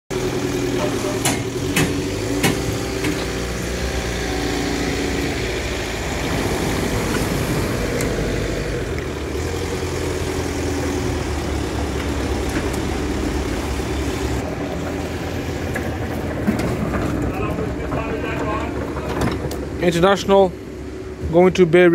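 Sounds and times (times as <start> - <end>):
forklift engine running: 0.1 - 21.9.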